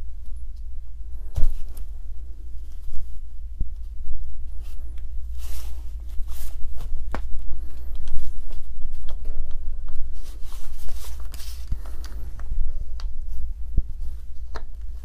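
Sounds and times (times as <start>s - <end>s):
steady low hum: 0.0s - 15.0s
scraping and rustling: 1.2s - 15.0s.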